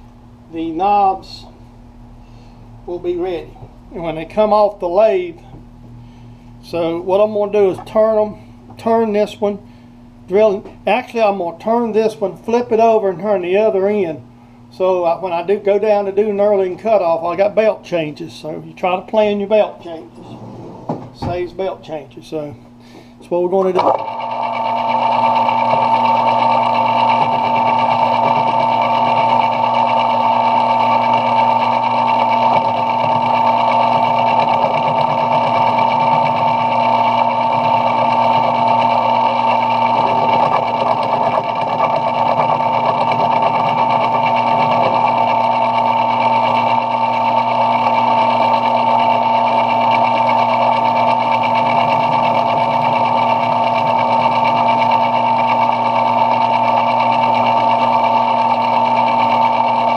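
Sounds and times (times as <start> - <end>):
metal lathe motor whine: 0.5 - 1.6, 6.6 - 9.5, 14.8 - 22.5, 23.2 - 59.9.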